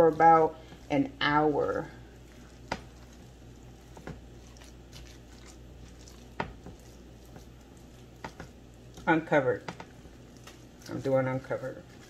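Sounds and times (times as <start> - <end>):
spatula squishing meat mixture: 0.0 - 12.0.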